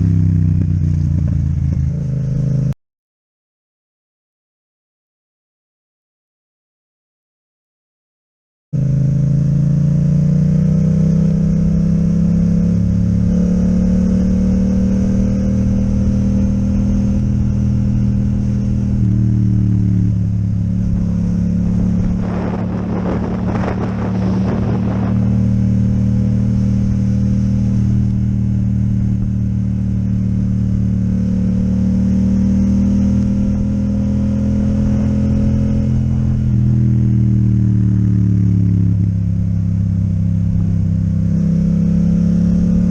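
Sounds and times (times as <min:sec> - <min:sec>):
motorcycle engine: 0:00.0 - 0:02.8, 0:08.8 - 0:42.9.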